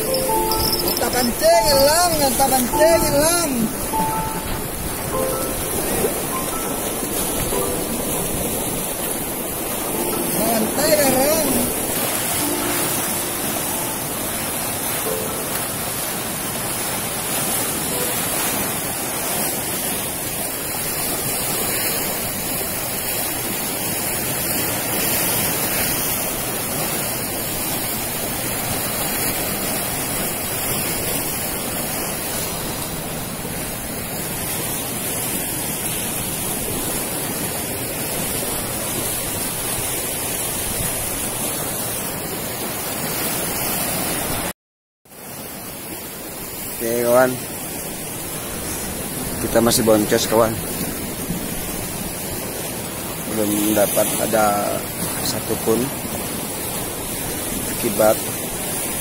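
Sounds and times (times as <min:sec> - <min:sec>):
water rushing at shore: 0:00.0 - 0:59.0.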